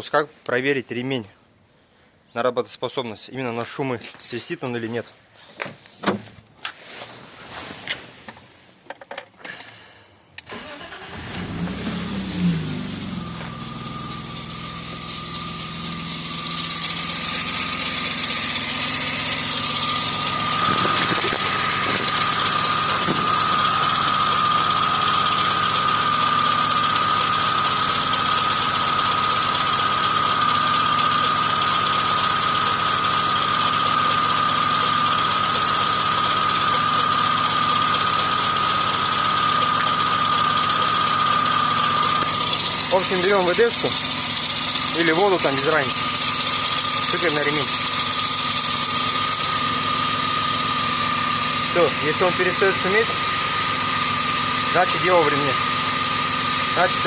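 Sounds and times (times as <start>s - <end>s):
car engine starting and idling: 10.4s - 57.0s
alternator belt squealing: 10.5s - 57.0s.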